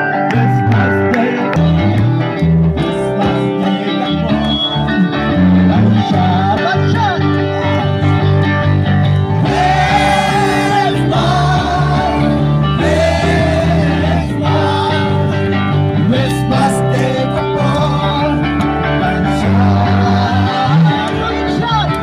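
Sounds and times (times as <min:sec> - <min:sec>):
bass guitar: 0:00.0 - 0:22.0
strummed guitar: 0:00.0 - 0:22.0
voices singing together: 0:00.3 - 0:06.6, 0:09.3 - 0:21.6.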